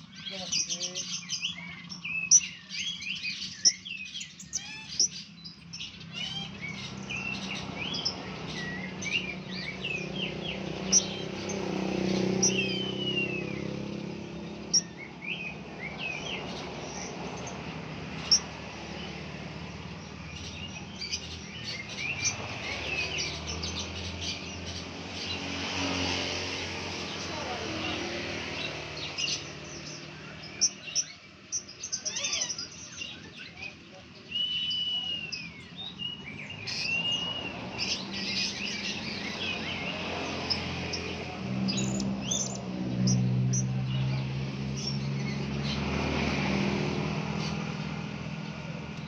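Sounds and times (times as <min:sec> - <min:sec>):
parrots chirping: 0:00.0 - 0:43.8.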